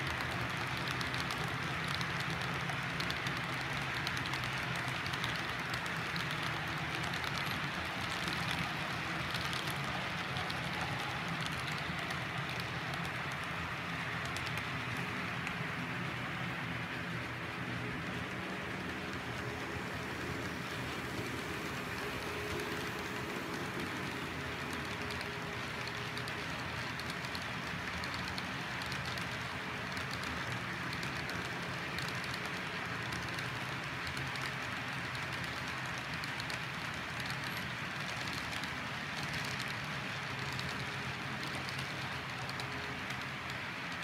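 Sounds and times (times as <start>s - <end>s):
light clicking of train cars: 0.0s - 44.0s
model train whirring: 0.0s - 44.0s.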